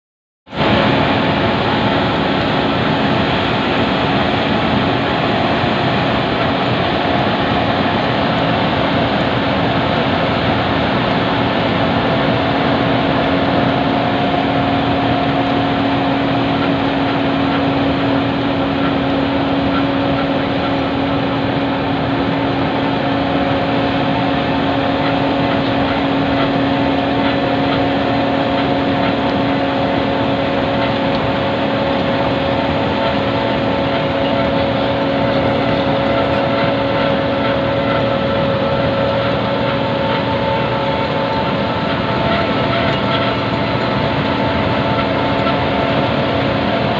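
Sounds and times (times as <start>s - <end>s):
engine hum: 0.5s - 46.9s
milling machine grinding: 0.6s - 46.9s.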